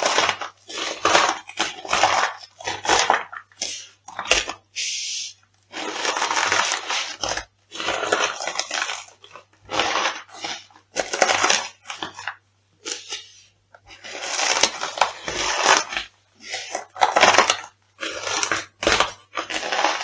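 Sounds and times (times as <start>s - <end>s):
food crunching underfoot: 0.0s - 20.0s.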